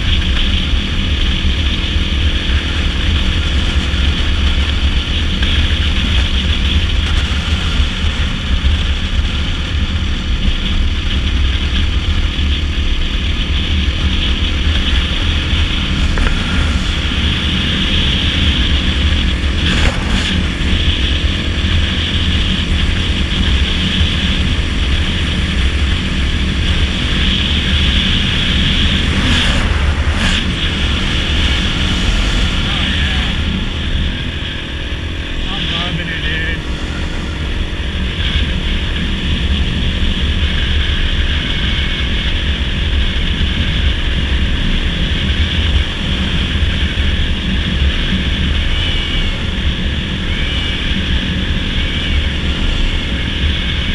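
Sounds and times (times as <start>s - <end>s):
dirt bike engine running: 0.0s - 53.9s
wind rumble on microphone: 0.0s - 53.9s.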